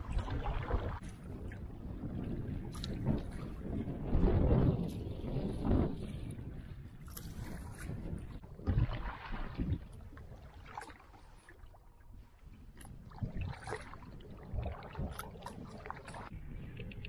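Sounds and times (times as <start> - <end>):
waves splashing against hull: 0.0 - 17.0.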